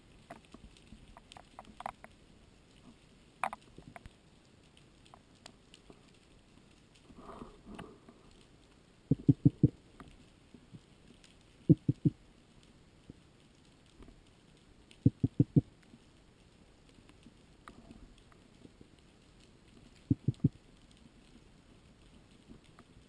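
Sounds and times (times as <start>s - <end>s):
faint underwater clicks: 0.0s - 23.0s.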